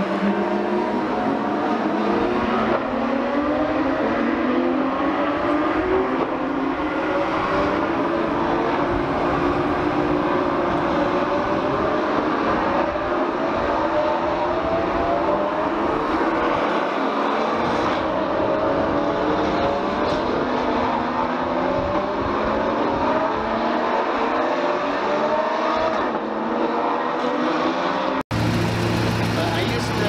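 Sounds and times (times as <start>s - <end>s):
race car engines accelerating: 0.0s - 30.0s.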